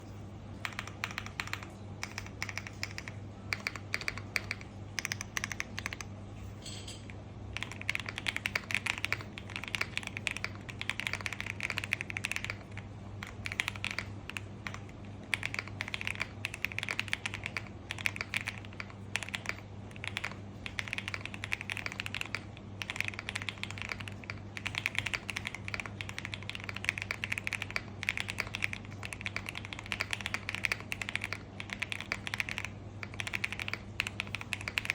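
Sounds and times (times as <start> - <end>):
steady low hum: 0.0 - 34.9
mechanical keyboard typing: 0.6 - 6.1, 7.5 - 34.9.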